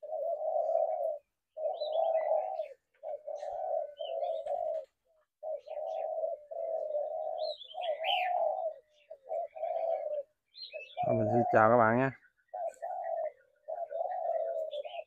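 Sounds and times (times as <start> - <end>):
doves cooing: 0.0 - 15.0
small birds chirping: 0.0 - 15.0.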